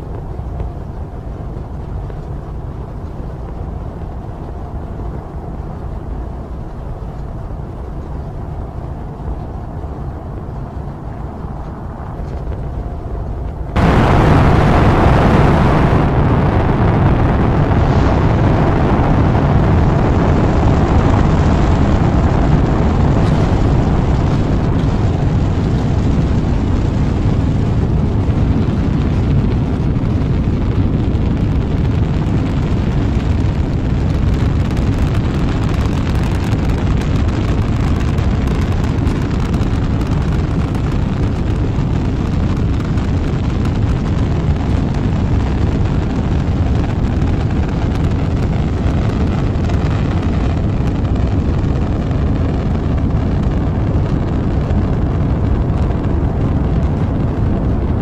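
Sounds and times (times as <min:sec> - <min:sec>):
rocket engine roar: 0:00.0 - 0:58.0.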